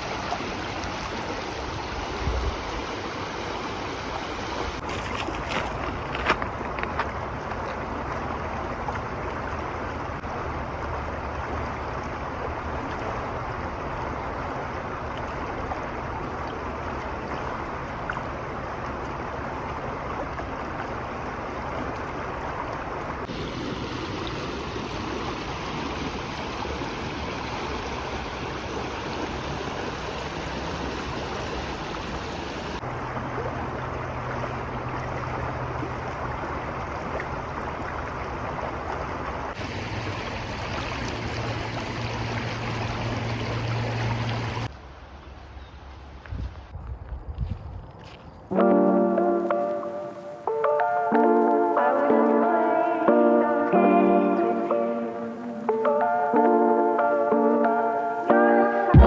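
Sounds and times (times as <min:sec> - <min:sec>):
stream water rushing: 0:00.0 - 0:45.1, 0:48.6 - 0:59.0.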